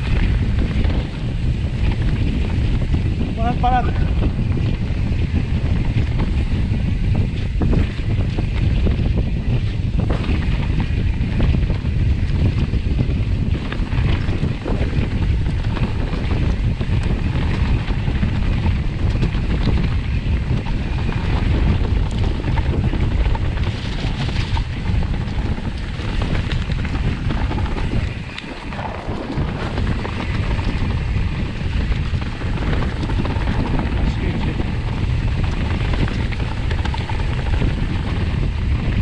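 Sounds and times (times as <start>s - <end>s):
bike rattles and knocks: 0.0s - 39.0s
bike tyres rumbling: 0.0s - 39.0s
wind buffeting microphone: 0.0s - 39.0s.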